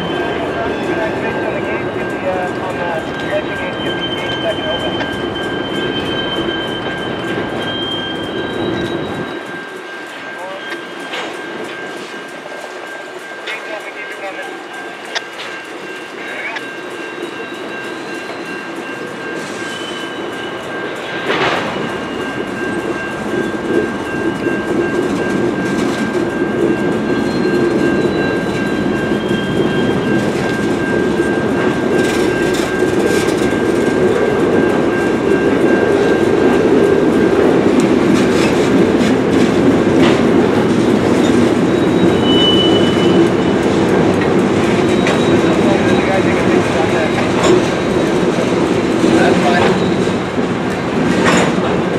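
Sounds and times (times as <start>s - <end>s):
train wheels rumbling and clanking: 0.0s - 51.9s.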